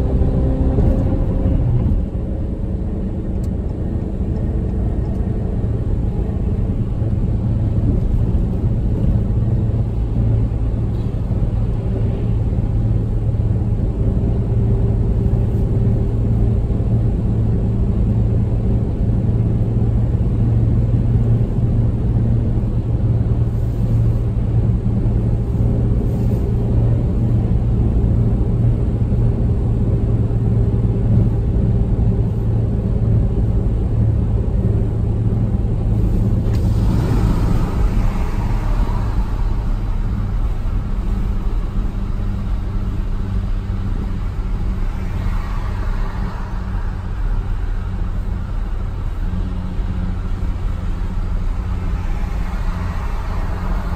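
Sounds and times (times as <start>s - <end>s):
car engine and road drone: 0.0s - 53.9s
road and wind noise hiss: 0.0s - 53.9s.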